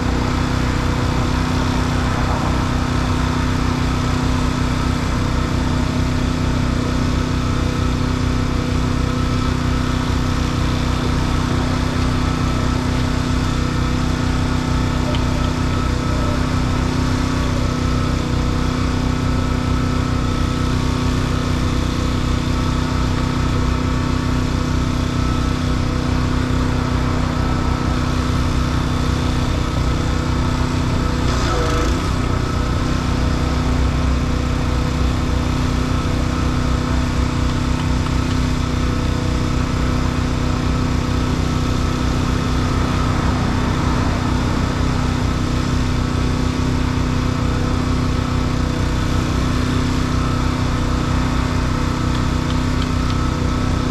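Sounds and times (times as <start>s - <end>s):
small engine running steadily: 0.0s - 53.9s.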